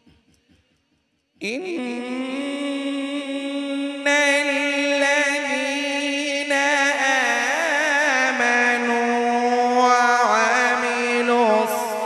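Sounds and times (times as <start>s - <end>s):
person reciting melodically: 1.4s - 12.0s.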